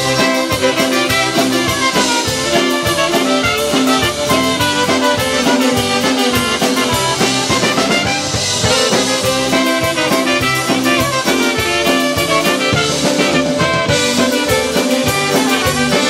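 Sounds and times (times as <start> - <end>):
drum kit beat: 0.0 - 16.0
saxophone: 0.0 - 16.0
trumpet: 0.0 - 16.0.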